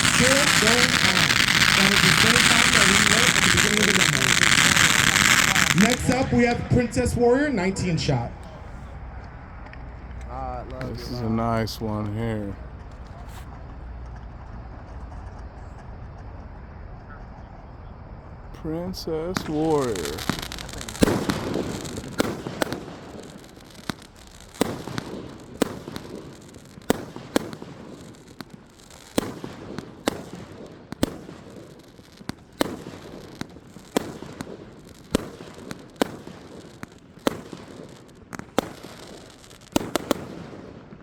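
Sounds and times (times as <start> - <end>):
fireworks crackling: 0.0 - 17.4, 18.2 - 41.0
fireworks bangs: 0.0 - 41.0.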